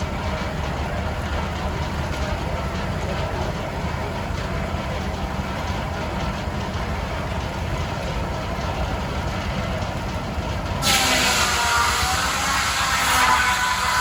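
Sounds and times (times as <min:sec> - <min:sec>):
engine rumble: 0:00.0 - 0:14.0.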